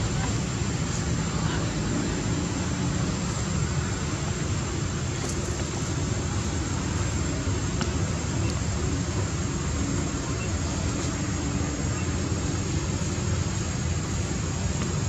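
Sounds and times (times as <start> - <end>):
steady rumbling noise with hiss: 0.0 - 15.0.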